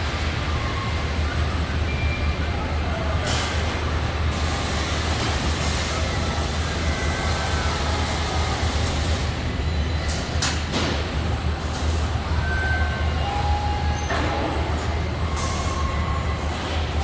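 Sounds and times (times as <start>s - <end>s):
general factory noise: 0.0s - 17.0s
low machinery hum: 0.0s - 17.0s.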